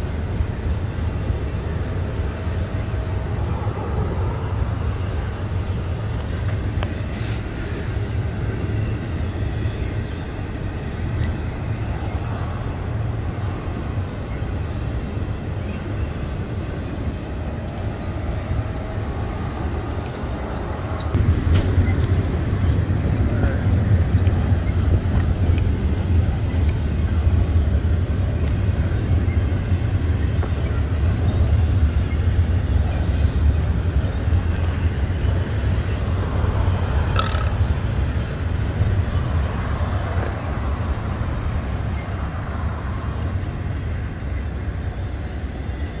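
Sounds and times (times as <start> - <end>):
freight train rolling past: 0.0 - 46.0.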